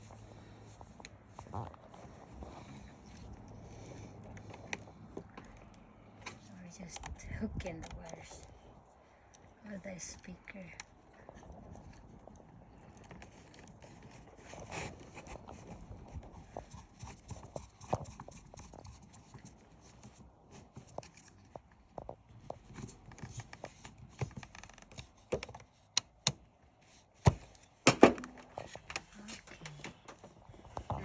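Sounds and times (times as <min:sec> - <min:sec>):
small clicks taps and rustles: 0:00.0 - 0:27.6.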